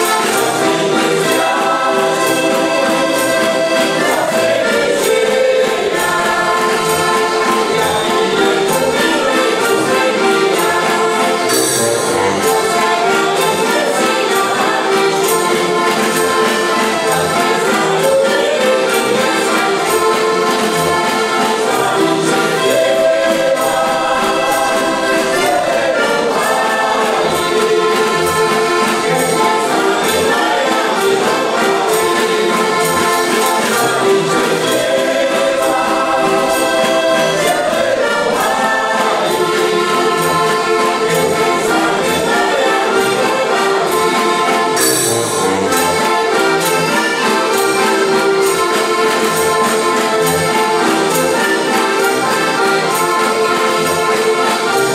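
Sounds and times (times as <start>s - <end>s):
button accordions playing folk song: 0.0s - 54.9s
group singing along: 0.0s - 54.9s.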